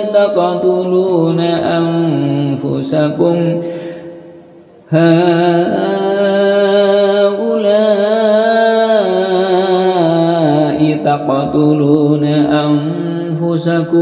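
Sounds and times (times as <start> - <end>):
person chanting recitation: 0.0 - 3.9, 4.8 - 14.0.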